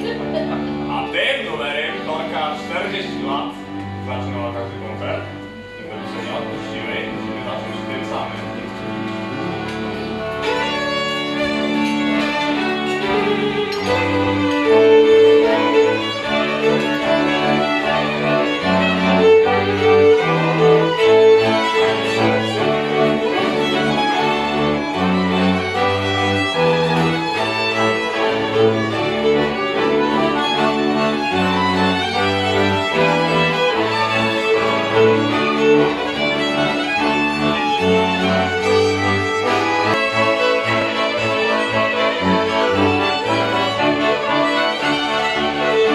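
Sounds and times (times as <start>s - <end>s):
accordion: 0.0s - 45.9s
cello bass line: 0.0s - 45.9s
violins playing folk tune: 0.0s - 45.9s.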